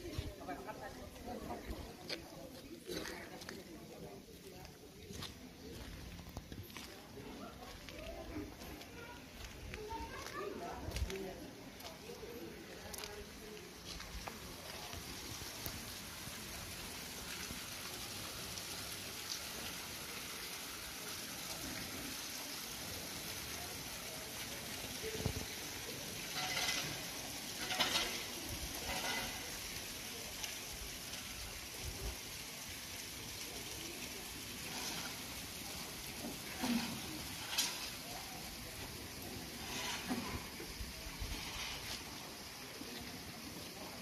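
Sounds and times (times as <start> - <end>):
outdoor background hiss: 0.0 - 44.0.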